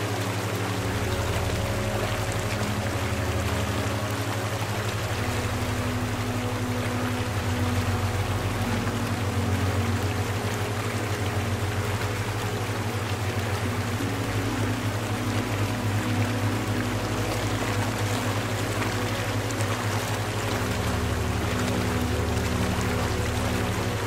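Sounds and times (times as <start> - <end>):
low sustained hum: 0.0 - 24.0
rushing water: 0.0 - 24.0.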